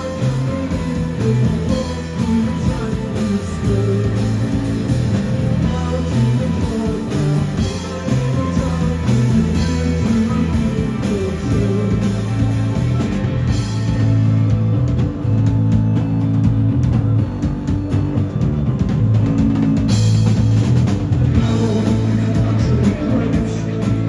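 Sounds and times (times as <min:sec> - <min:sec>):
bass guitar: 0:00.0 - 0:24.0
drum kit: 0:00.0 - 0:24.0
electric guitars: 0:00.0 - 0:24.0.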